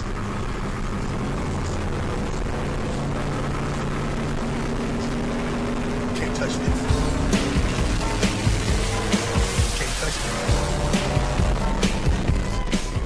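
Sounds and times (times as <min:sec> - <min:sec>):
car engine drone: 0:00.0 - 0:13.0
wind and road noise: 0:00.0 - 0:13.0.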